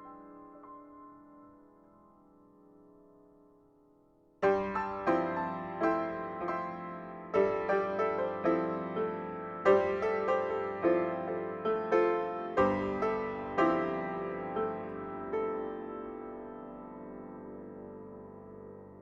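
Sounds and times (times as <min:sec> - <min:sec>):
slow solo piano piece: 0:00.0 - 0:19.0.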